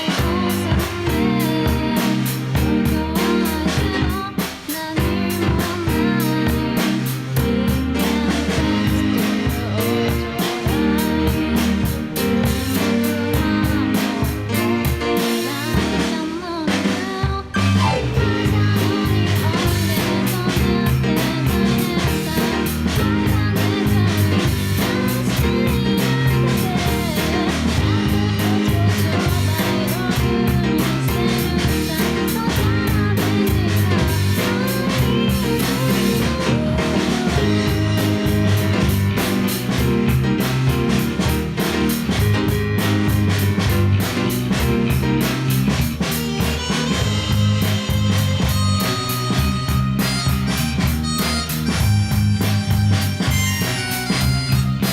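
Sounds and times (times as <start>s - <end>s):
bass guitar: 0.0s - 54.9s
drum kit: 0.0s - 54.9s
keyboard: 0.0s - 54.9s.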